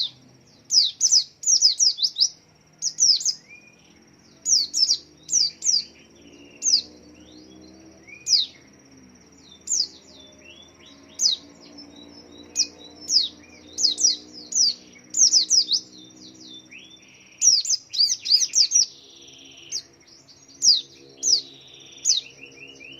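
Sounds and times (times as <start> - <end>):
bird chirping: 0.0 - 22.9.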